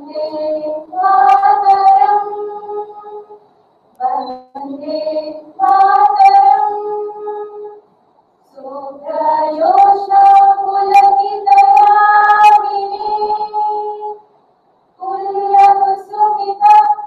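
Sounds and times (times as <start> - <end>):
women singing in unison: 0.0 - 3.4, 4.0 - 7.9, 8.5 - 14.3, 15.0 - 17.0.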